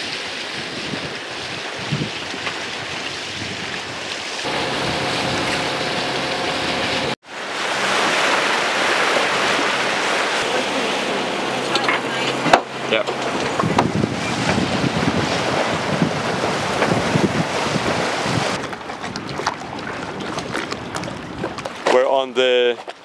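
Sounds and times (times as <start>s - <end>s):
water splashing along hull: 0.0s - 23.0s
wind buffeting microphone: 0.5s - 7.2s, 8.2s - 21.9s.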